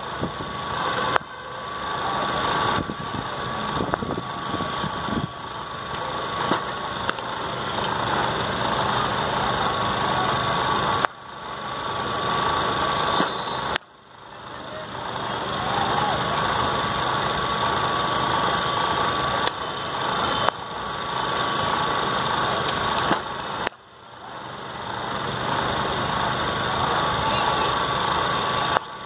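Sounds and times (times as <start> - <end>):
rumbling background noise: 0.0 - 29.0.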